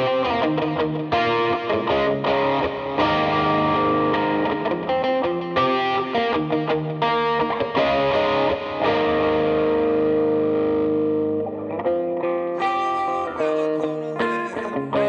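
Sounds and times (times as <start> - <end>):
overdriven electric guitar lead: 0.0 - 15.0.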